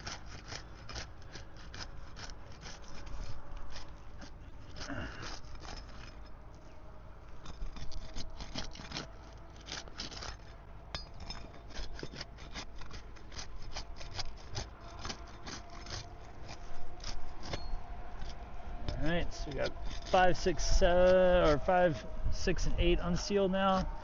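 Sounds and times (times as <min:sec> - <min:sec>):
flat bar scraping shingles: 0:00.0 - 0:06.8, 0:07.4 - 0:24.0.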